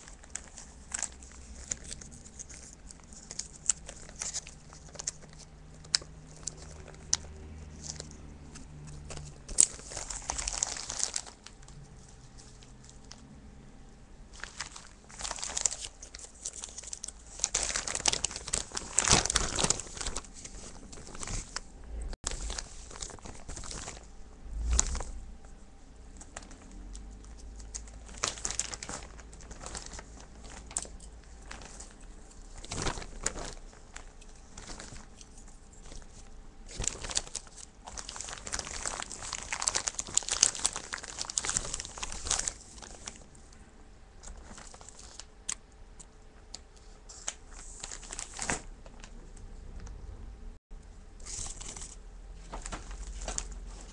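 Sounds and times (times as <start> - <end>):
plastic bag crinkling: 0.0 - 13.3, 14.3 - 25.4, 26.1 - 43.3, 44.2 - 45.6, 46.5 - 49.2, 51.2 - 53.9.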